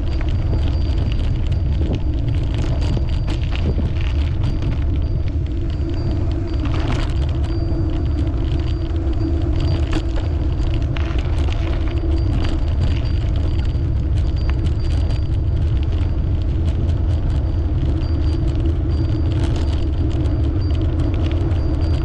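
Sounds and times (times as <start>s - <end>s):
road and tyre noise: 0.0s - 22.0s
wind rumbling on microphone: 0.0s - 22.0s.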